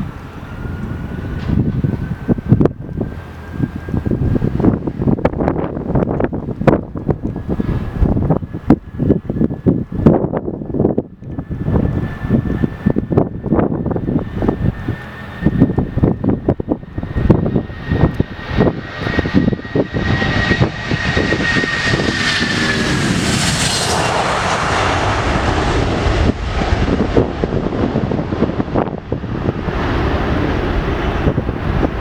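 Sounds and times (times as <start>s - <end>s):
jet engines at takeoff: 0.0s - 32.0s
wind buffeting microphone: 0.0s - 32.0s.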